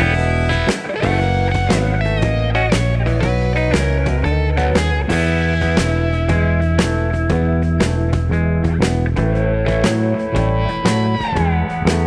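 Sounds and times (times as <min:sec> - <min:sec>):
electric guitar music over beat: 0:00.0 - 0:12.0.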